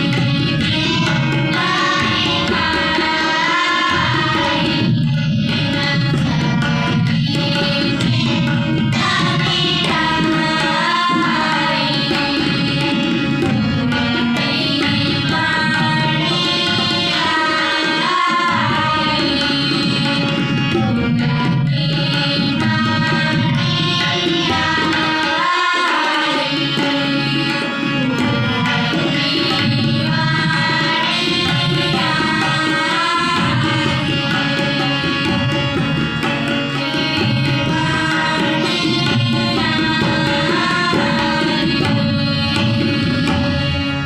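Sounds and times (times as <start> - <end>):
children singing a hymn: 0.0 - 44.0
harmonium chords: 0.0 - 44.0
tabla rhythm: 0.0 - 44.0.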